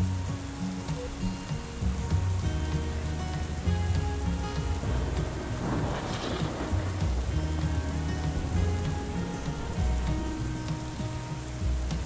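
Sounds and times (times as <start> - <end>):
rain on car windshield: 0.0 - 12.0
soft background music: 0.0 - 12.0.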